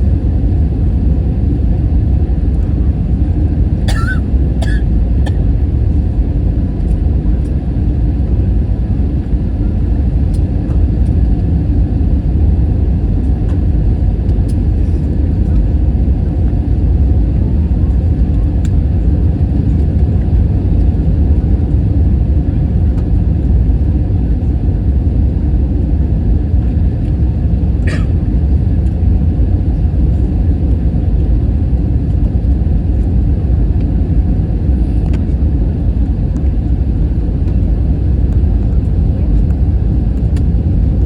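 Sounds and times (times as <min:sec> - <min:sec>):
airplane cabin engine rumble: 0:00.0 - 0:41.0.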